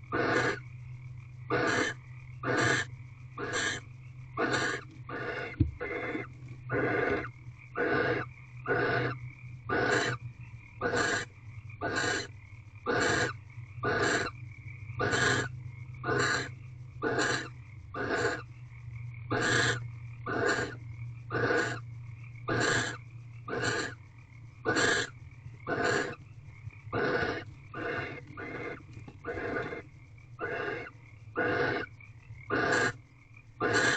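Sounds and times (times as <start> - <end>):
owl hissing calls: 0.0 - 0.6, 1.5 - 10.2, 10.8 - 12.3, 12.9 - 14.4, 15.0 - 18.5, 19.3 - 21.8, 22.5 - 24.0, 24.6 - 26.2, 26.9 - 31.9, 32.5 - 33.0, 33.6 - 33.9
steady low hum: 0.0 - 33.9.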